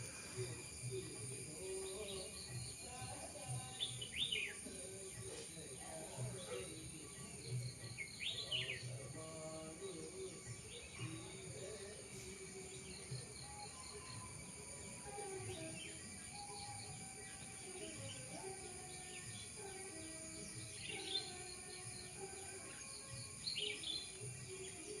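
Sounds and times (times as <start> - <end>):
birds chirping: 0.0 - 25.0
steady background hiss: 0.0 - 25.0.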